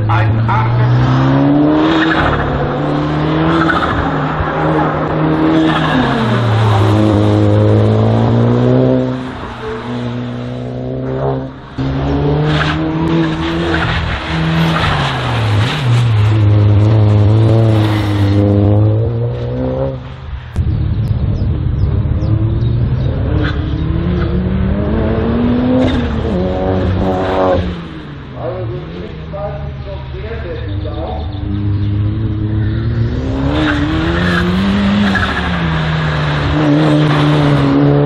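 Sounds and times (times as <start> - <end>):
racing car engine revving: 0.0 - 38.0.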